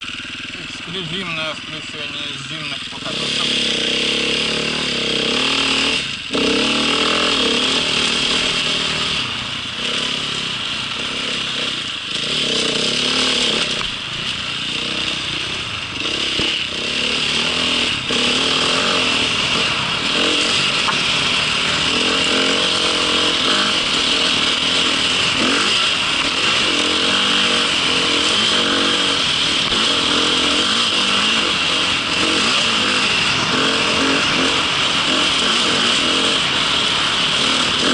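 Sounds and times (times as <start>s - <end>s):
small vehicle engine running: 0.0s - 37.9s
steady rushing noise: 0.0s - 37.9s.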